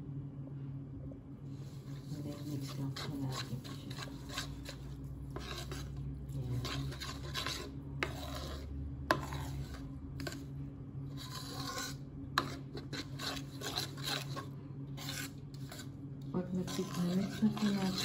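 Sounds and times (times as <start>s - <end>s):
metal spoon scraping a bowl: 1.8s - 18.0s.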